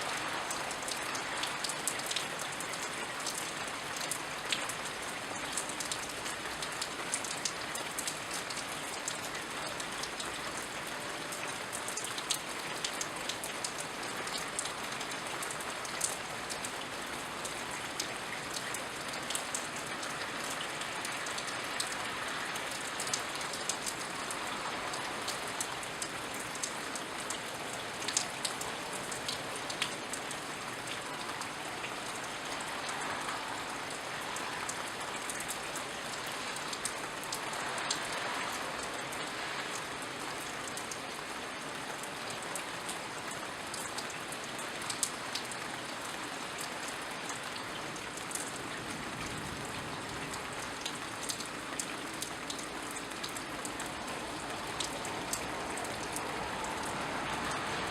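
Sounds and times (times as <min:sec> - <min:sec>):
steady rain falling: 0:00.0 - 0:57.9
close drips of water: 0:00.1 - 0:57.9.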